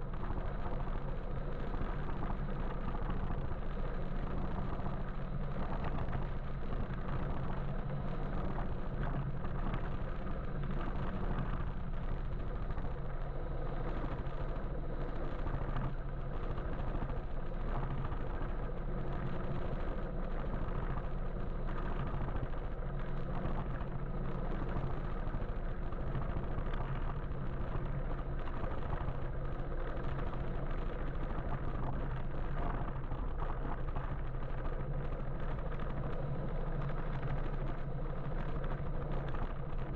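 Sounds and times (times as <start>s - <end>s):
road and traffic rumble: 0.0s - 39.9s.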